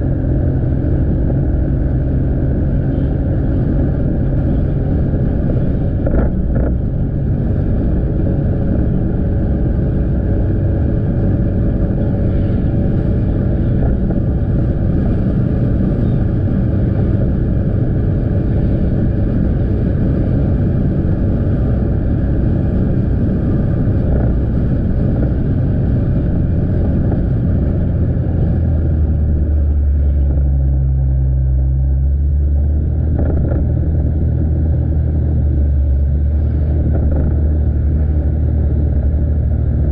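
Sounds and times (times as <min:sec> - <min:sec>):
deep steady hum: 0:00.0 - 0:39.9
motorcycle engine running: 0:00.0 - 0:39.9
tyre and road noise: 0:00.0 - 0:39.9.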